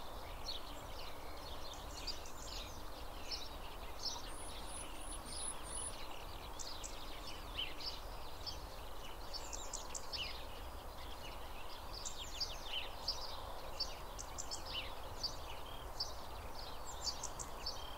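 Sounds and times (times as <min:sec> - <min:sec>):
low background noise: 0:00.0 - 0:17.9
small birds chirping: 0:00.0 - 0:17.9.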